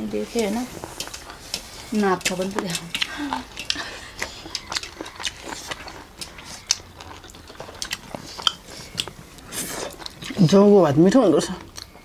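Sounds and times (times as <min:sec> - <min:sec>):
people chewing with mouths open: 0:00.8 - 0:12.0.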